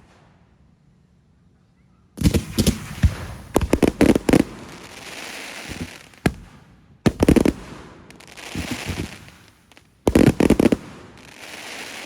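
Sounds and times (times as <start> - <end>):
faint low outdoor rumble: 0.0 - 12.0
firework report echo: 2.2 - 12.0.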